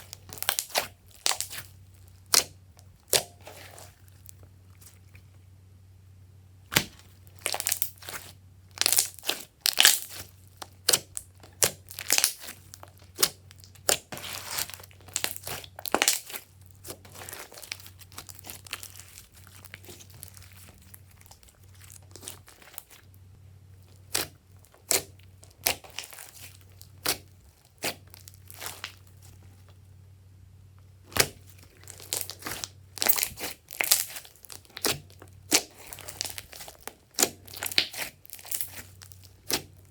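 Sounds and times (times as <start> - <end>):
slime squished with sticky clicks: 0.1 - 4.3, 6.7 - 23.0, 24.0 - 29.0, 31.1 - 39.8.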